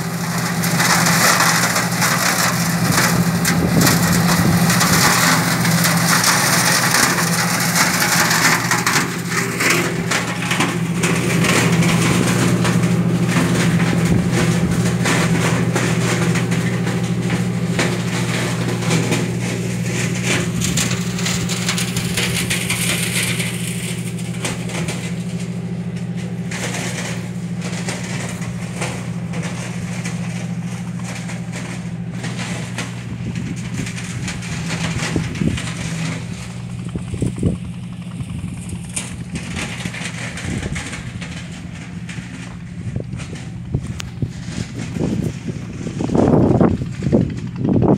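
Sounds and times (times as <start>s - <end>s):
flail mower shredding vines: 0.0s - 47.9s
tractor engine running: 0.0s - 47.9s.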